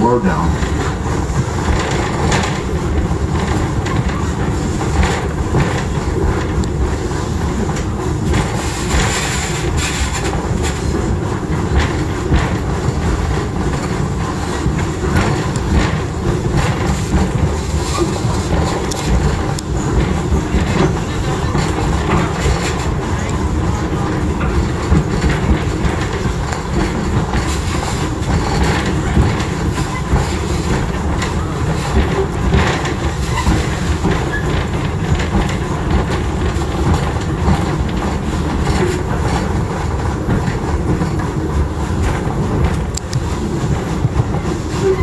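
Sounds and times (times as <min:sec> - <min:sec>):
clacks over rail joints: 0:00.0 - 0:45.0
train wheels rumbling on track: 0:00.0 - 0:45.0.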